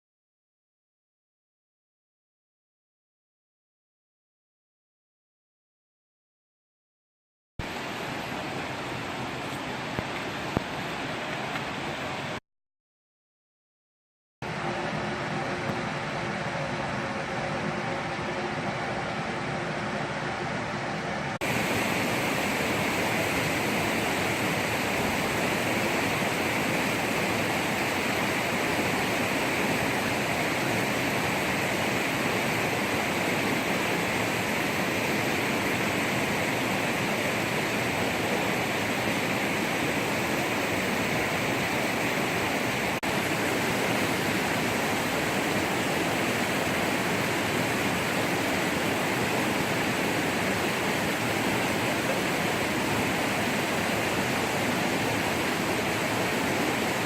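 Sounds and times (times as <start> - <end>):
flowing water: 7.6 - 12.4, 14.4 - 57.0.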